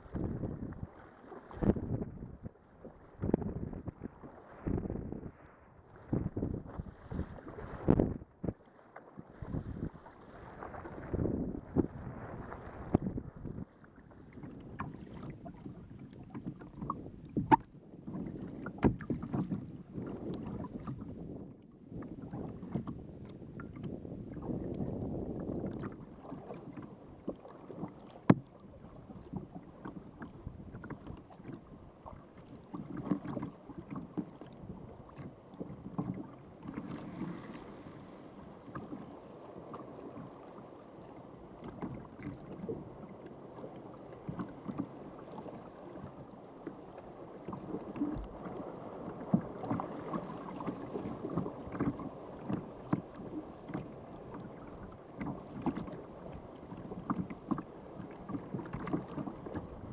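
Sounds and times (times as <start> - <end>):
steady wash of water: 0.0 - 59.9
water splashing around kayak: 0.0 - 59.9.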